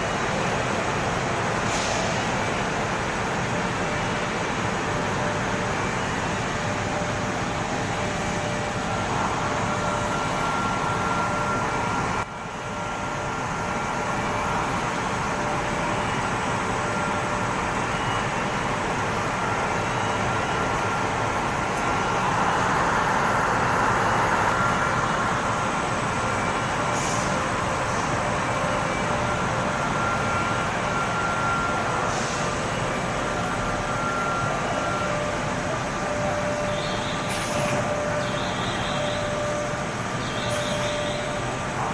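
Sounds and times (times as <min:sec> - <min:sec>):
faint machine whines: 0:00.0 - 0:41.9
roller conveyors and machinery whirring: 0:00.0 - 0:41.9.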